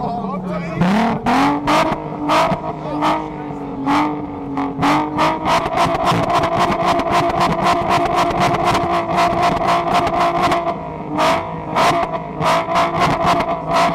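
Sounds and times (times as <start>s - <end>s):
exhaust cracks: 0.6s - 13.9s
car engine bouncing off rev limiter: 0.8s - 13.9s.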